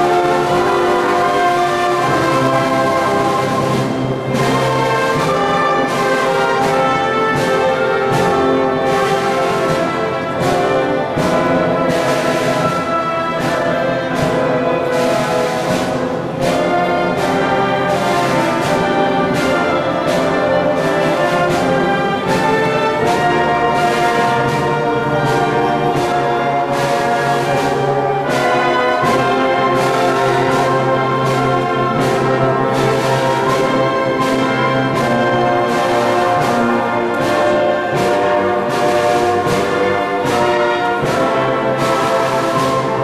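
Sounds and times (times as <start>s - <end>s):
orchestra playing: 0.0s - 43.0s.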